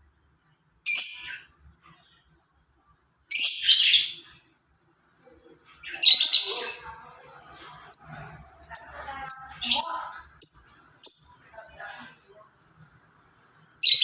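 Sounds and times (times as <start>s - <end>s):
songbird singing: 0.8s - 2.2s, 3.3s - 14.0s.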